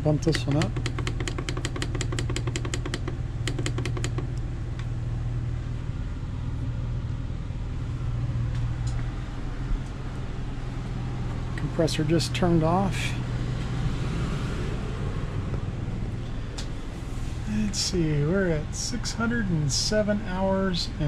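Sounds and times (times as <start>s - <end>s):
air conditioner humming: 0.0s - 21.0s.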